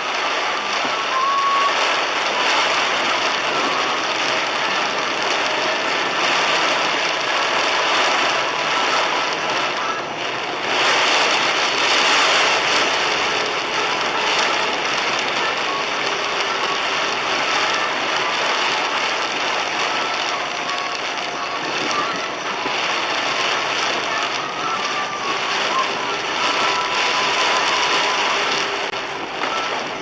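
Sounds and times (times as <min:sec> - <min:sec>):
heavy rain on car roof: 0:00.0 - 0:30.0.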